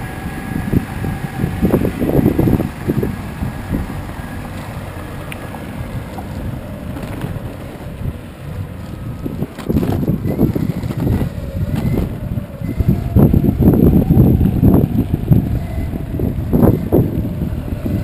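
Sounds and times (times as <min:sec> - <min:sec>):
board wheels rolling on pavement: 0:00.0 - 0:18.0
wind on microphone: 0:00.0 - 0:18.0.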